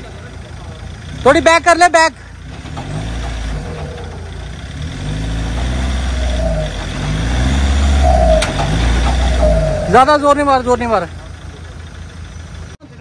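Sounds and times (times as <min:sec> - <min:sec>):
car engine revving under load: 0:00.0 - 0:12.8.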